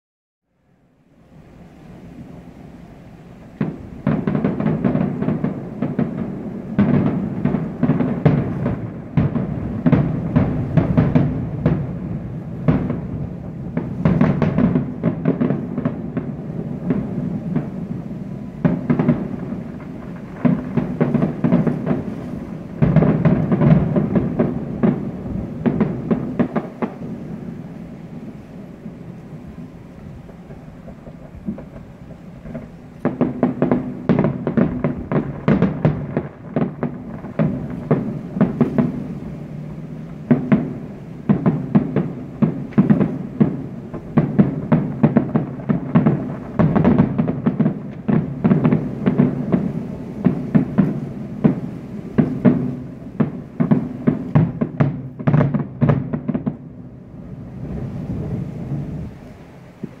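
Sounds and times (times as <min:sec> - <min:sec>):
distant fireworks booming and crackling: 0:01.2 - 1:00.0.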